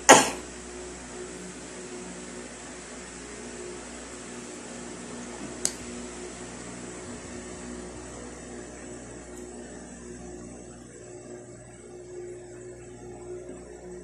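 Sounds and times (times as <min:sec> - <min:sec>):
mechanical hum and hiss: 0:00.0 - 0:14.0.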